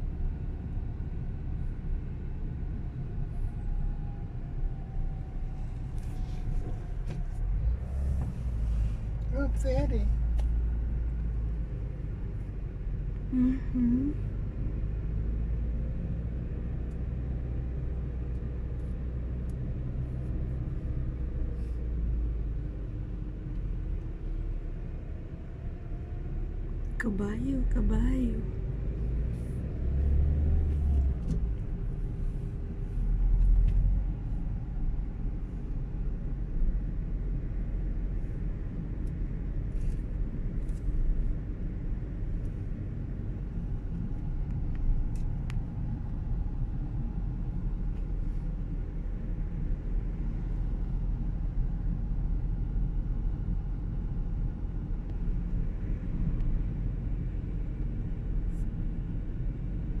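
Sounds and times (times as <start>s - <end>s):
car driving rumble inside cabin: 0.0s - 60.0s.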